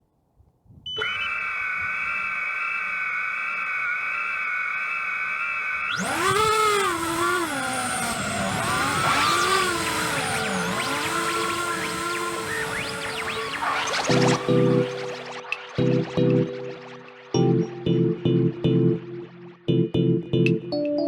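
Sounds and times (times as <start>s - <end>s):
drone motors whining: 0.9s - 19.5s.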